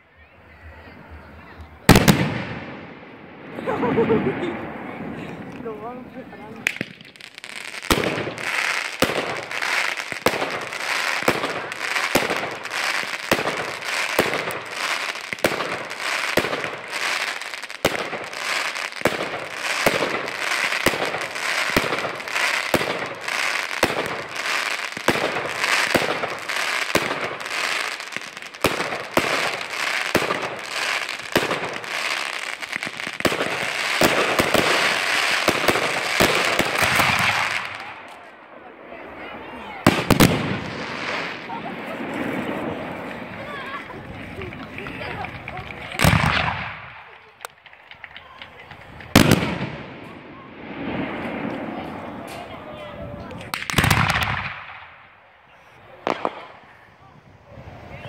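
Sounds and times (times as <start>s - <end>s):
fireworks crackling: 0.0s - 58.0s
fireworks bangs: 0.5s - 58.0s.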